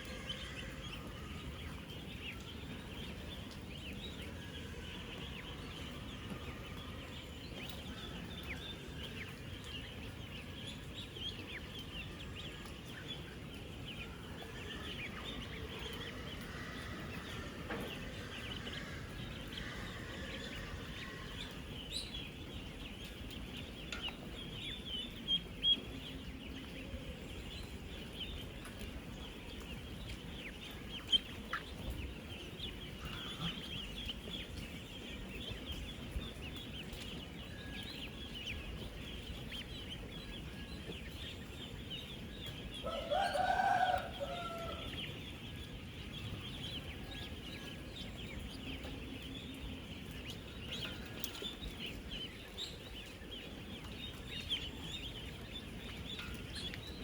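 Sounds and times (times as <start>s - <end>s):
ducklings peeping: 0.0s - 57.0s.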